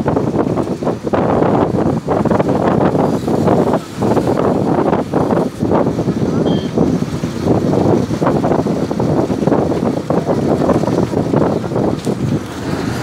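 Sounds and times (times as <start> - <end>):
vehicle running and road noise: 0.0 - 13.0
wind buffeting microphone: 0.0 - 13.0.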